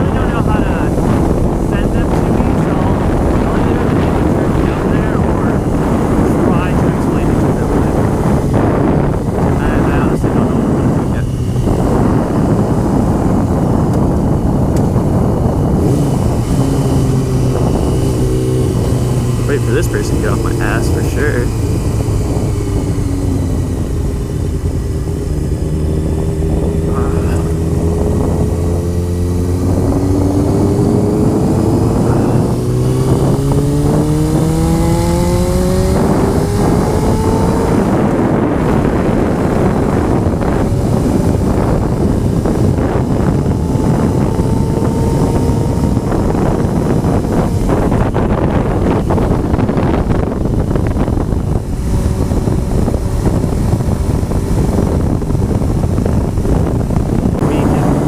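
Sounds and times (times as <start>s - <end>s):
motorcycle engine accelerating: 0.0s - 58.0s
wind noise on microphone: 0.0s - 58.0s.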